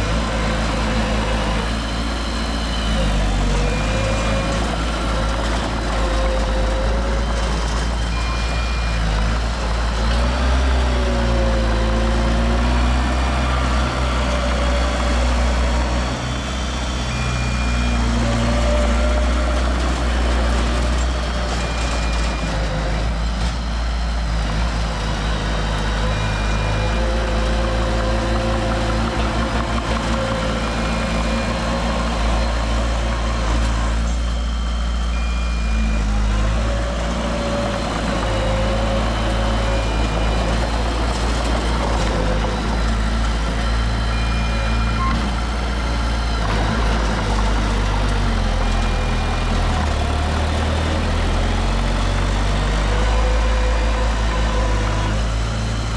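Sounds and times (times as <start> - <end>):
heavy diesel machinery running: 0.0 - 55.9.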